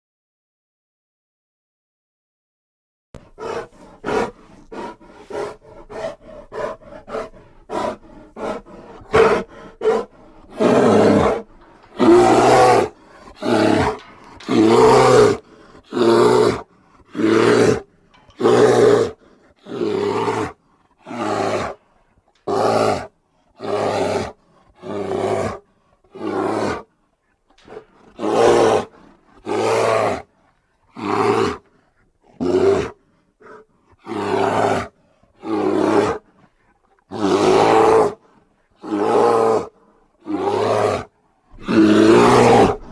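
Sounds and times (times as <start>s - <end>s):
bear roaring: 3.2s - 26.9s, 27.5s - 42.9s
bear growling: 3.2s - 42.9s.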